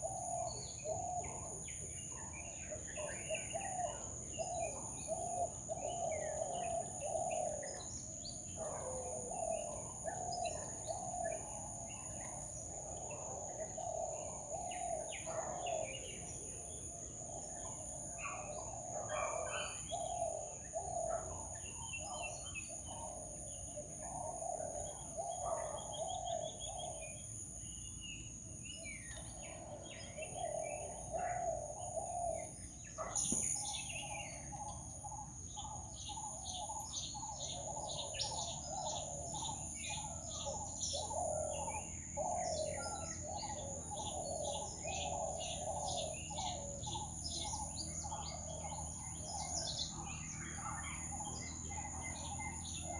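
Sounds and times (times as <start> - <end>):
birds calling and chirping: 0.0 - 52.9.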